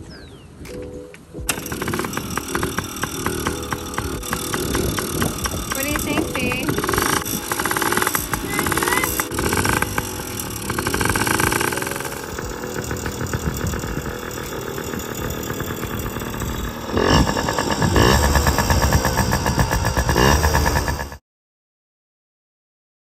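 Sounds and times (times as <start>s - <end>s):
small two-stroke engine revving: 1.5s - 21.2s.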